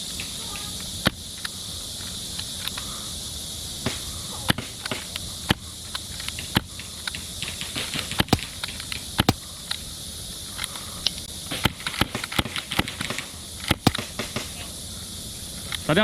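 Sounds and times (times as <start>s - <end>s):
sharp clicks and snaps: 0.0s - 3.0s, 3.8s - 9.9s, 10.5s - 14.6s
insects chirring: 0.0s - 16.0s.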